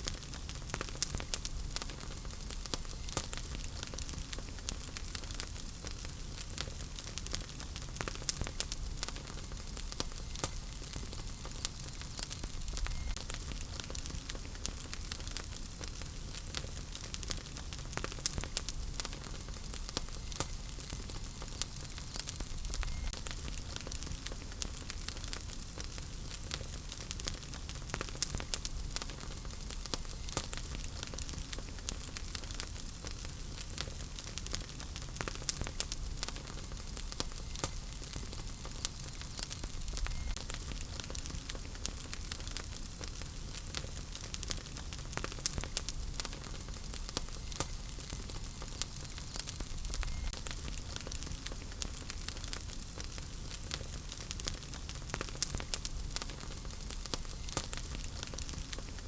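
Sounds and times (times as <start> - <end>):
wood fire burning: 0.0 - 59.0.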